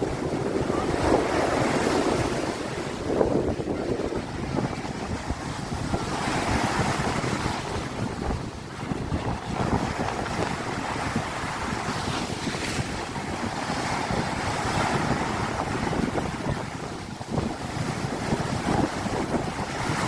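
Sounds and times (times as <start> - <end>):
surf breaking on shore: 0.0 - 20.0
wind buffeting microphone: 0.0 - 20.0.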